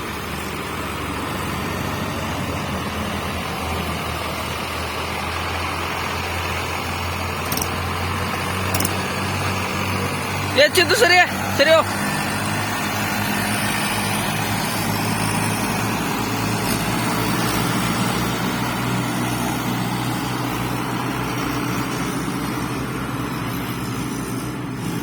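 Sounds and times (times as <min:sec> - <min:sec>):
tractor engines running: 0:00.0 - 0:25.0.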